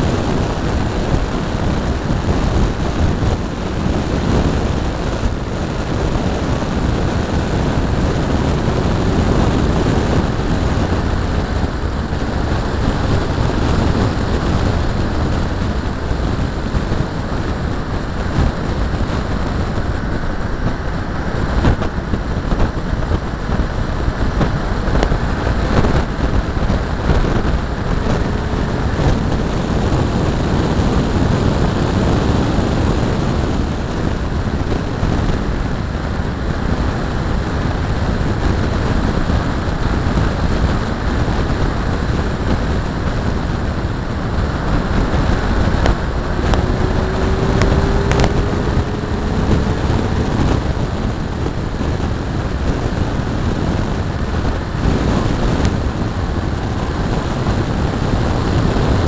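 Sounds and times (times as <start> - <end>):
tyre and road noise: 0.0 - 59.0
wind buffeting microphone: 0.0 - 59.0.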